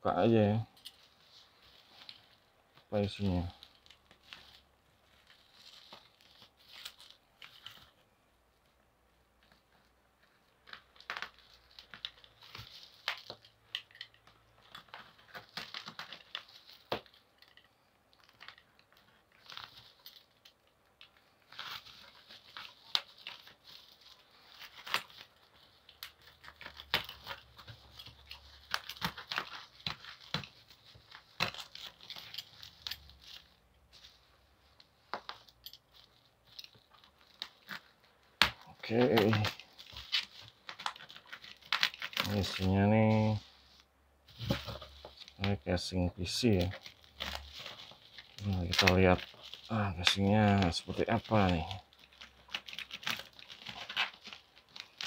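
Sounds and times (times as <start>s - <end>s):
plastic wrapping crinkling and tearing: 0.2s - 8.1s, 9.4s - 55.0s.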